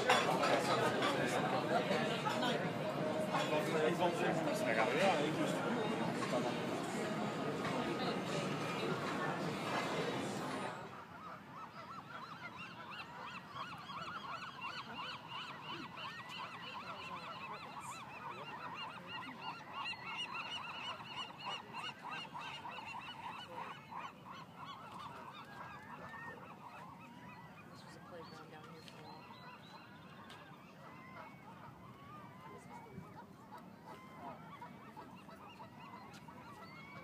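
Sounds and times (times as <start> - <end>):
gulls calling: 0.0 - 37.0.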